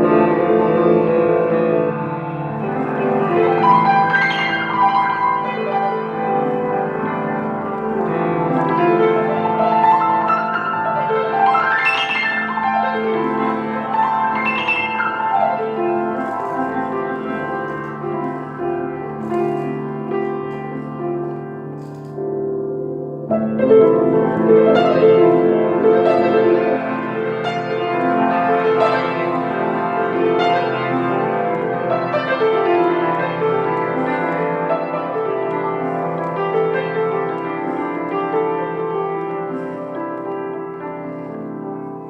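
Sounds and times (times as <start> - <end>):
instrumental piano music: 0.0 - 42.0.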